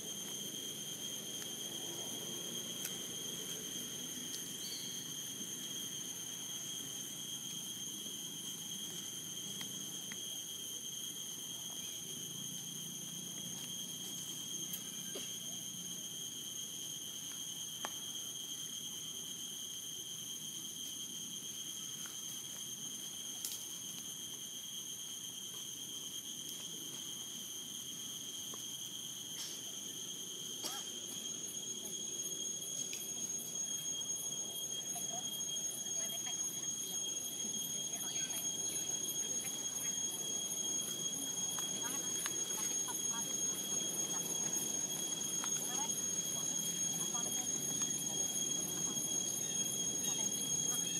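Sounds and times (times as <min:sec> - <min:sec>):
insects calling high-pitched: 0:00.0 - 0:50.9.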